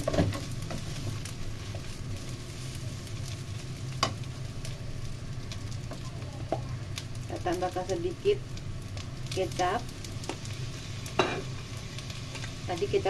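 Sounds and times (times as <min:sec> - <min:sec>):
noodles sizzling in a wok: 0:00.0 - 0:13.0.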